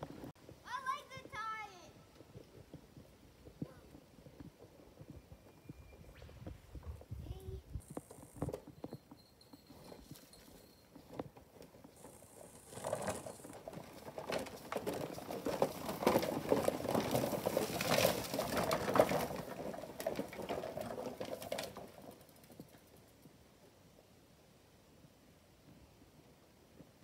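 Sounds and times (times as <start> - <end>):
trike wheels rattling on grass: 0.0 - 24.0.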